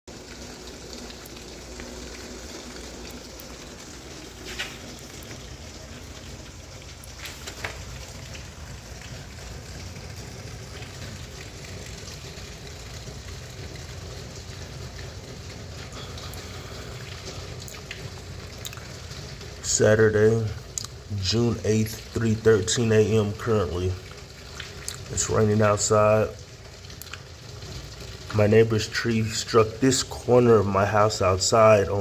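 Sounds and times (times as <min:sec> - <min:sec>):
steady rain hiss: 0:00.1 - 0:32.0.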